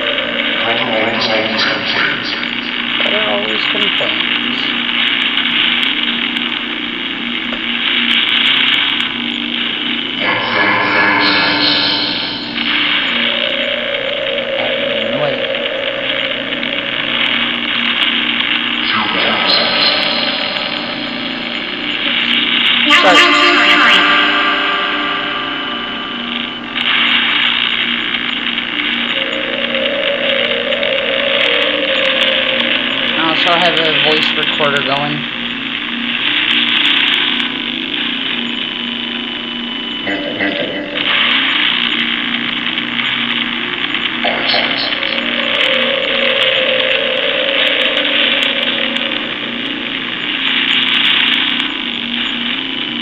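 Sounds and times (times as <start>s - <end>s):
buzzy tone: 0.0s - 53.0s
choppy radio static hiss: 0.0s - 53.0s.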